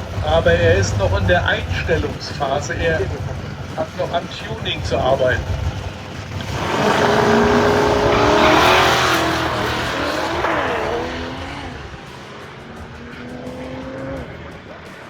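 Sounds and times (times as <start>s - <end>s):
drag racing cars accelerating: 0.0s - 15.0s.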